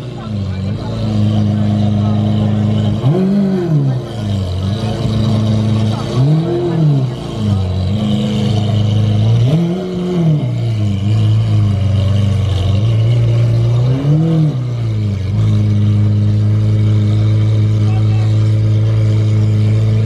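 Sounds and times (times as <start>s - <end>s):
car engine idling: 0.0s - 20.0s
engine throttle blips: 0.0s - 20.0s.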